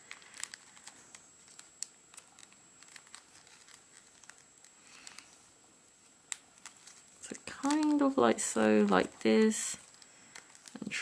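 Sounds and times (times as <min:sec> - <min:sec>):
paper crinkling: 0:00.0 - 0:11.0.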